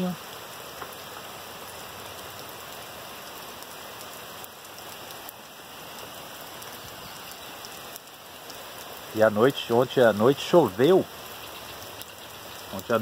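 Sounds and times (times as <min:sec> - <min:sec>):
steady rain on trees: 0:00.0 - 0:13.0.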